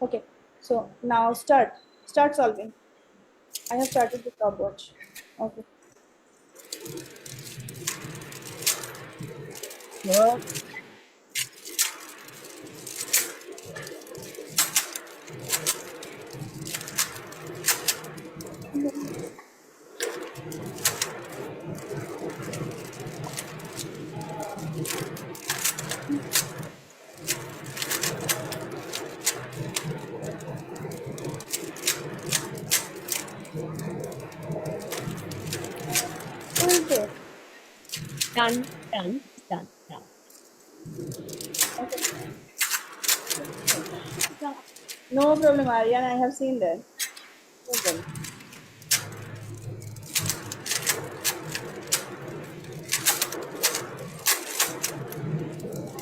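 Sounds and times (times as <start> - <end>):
irregular clicks and clacks: 3.5 - 4.4, 6.6 - 37.2, 37.9 - 38.9, 40.3 - 45.6, 47.0 - 56.0
low hum: 6.4 - 46.1, 46.8 - 56.0.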